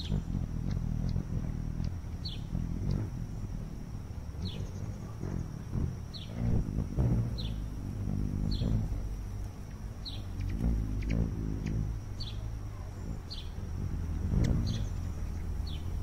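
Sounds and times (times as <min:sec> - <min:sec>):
bird chirping: 0:00.0 - 0:16.0
steady low rumble: 0:00.0 - 0:16.0.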